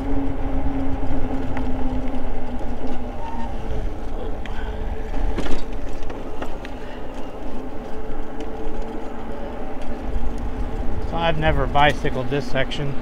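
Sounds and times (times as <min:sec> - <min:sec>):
electric motor whine: 0:00.0 - 0:12.0
wind rumble: 0:00.0 - 0:13.0.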